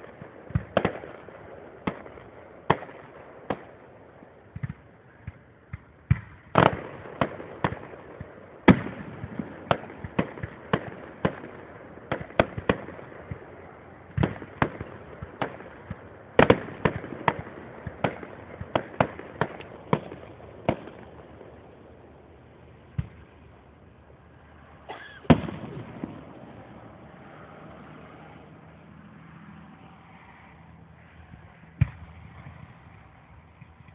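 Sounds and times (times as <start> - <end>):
fireworks bursting: 0.0 - 28.2.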